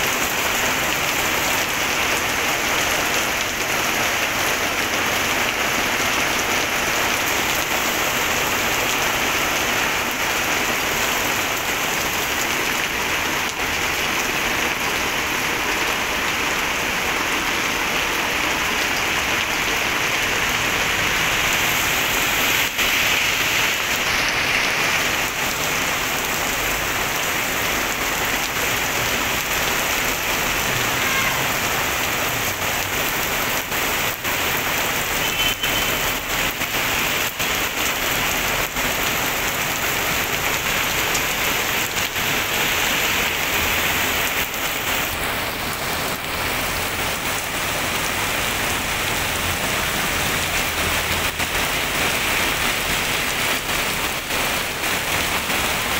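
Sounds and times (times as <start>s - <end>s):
heavy rain on pavement: 0.0s - 55.9s.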